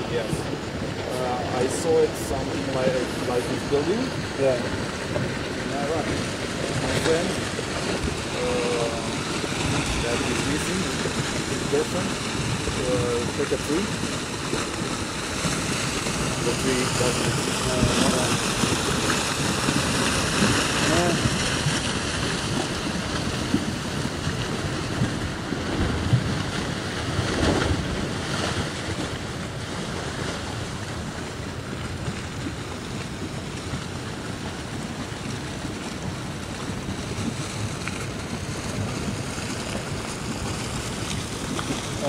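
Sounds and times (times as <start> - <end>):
flood torrent rushing: 0.0 - 42.0
wind buffeting the microphone: 0.0 - 42.0.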